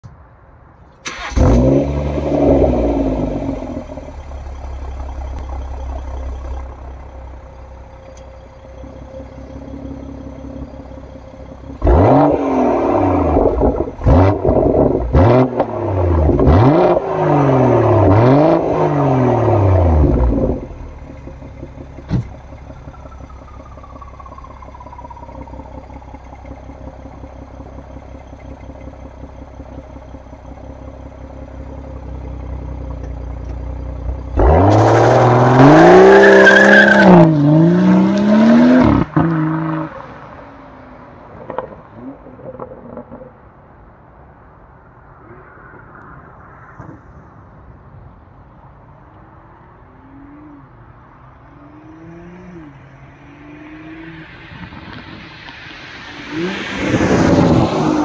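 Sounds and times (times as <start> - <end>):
car engine starting and idling: 0.0 - 58.0
car engine revving: 1.0 - 40.5, 50.0 - 58.0.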